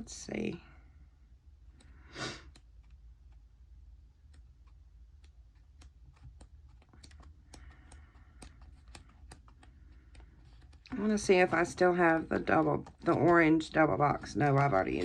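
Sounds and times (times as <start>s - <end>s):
low steady hum: 0.0s - 15.0s
clicks and taps handling paper: 1.7s - 15.0s.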